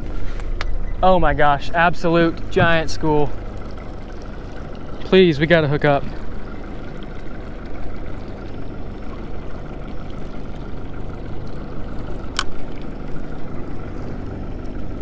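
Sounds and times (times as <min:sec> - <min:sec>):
steady low rumble: 0:00.0 - 0:15.0
water lapping against boat: 0:00.0 - 0:15.0.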